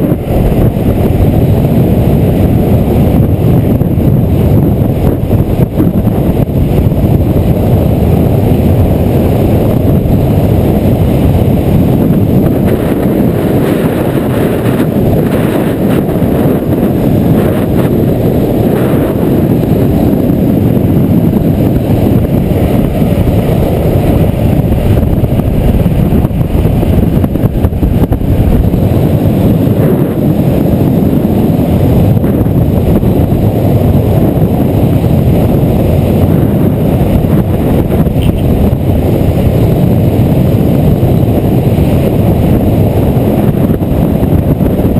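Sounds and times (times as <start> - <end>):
skateboard wheels rolling on asphalt: 0.0 - 44.9
wind buffeting microphone: 0.0 - 44.9.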